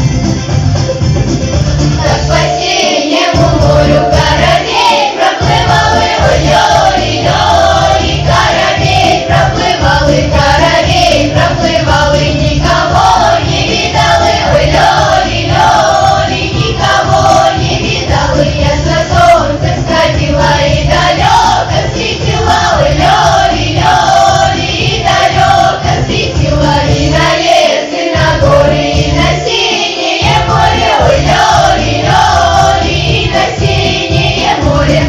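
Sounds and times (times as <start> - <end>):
rhythmic bass accompaniment: 0.0 - 35.0
children's choir singing: 2.0 - 35.0.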